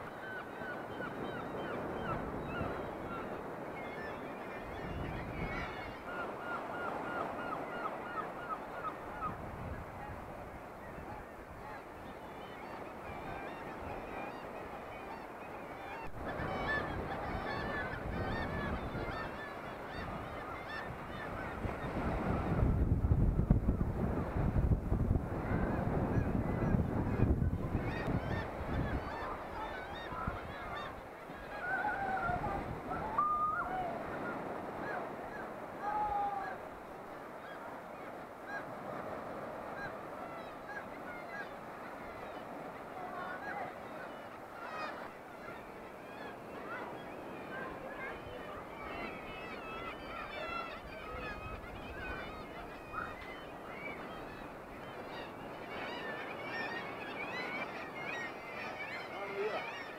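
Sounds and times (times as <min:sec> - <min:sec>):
seabirds honking: 0:00.0 - 0:22.6, 0:25.3 - 0:59.9
gulls calling: 0:00.0 - 0:22.7, 0:25.4 - 0:59.9
surf washing: 0:00.0 - 0:59.9.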